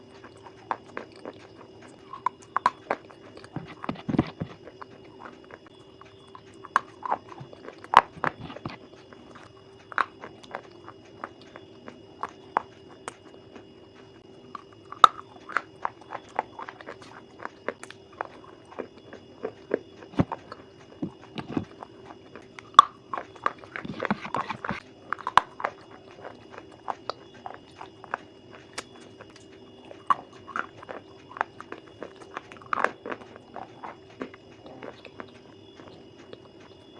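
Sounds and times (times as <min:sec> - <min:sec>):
animal chewing crunchy food: 0:00.0 - 0:36.9.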